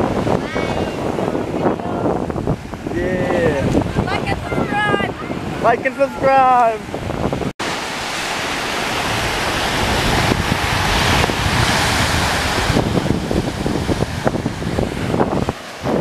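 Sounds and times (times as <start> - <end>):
ocean surf washing onto beach: 0.0 - 16.0
wind buffeting microphone: 0.0 - 16.0.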